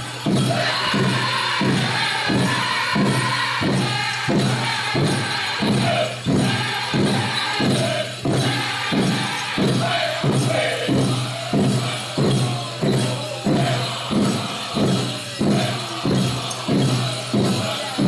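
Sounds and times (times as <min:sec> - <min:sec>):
group singing in high voices: 0:00.0 - 0:18.0
jingling bells: 0:00.0 - 0:18.0
steady drumbeat: 0:00.0 - 0:18.0.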